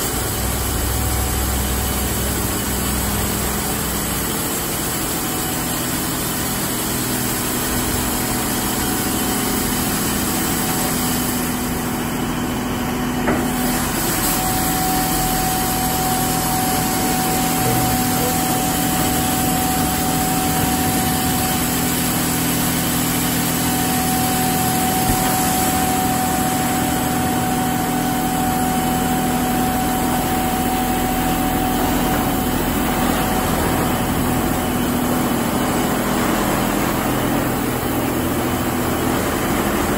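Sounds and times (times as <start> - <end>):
car wash motors and pumps humming: 0.0 - 39.9
steady machine whine: 0.0 - 39.9
spraying water hiss: 2.5 - 12.2, 13.4 - 39.1.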